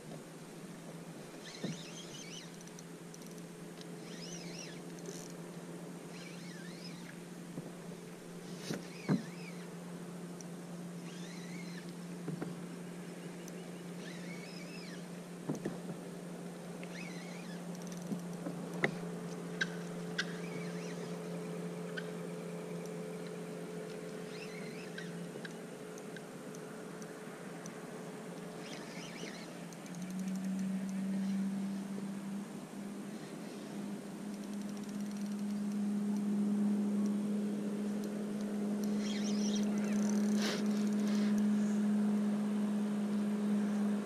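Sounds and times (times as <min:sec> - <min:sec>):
low hum: 0:00.0 - 0:44.0
birds chirping: 0:01.2 - 0:09.8, 0:10.4 - 0:15.8, 0:16.6 - 0:44.0.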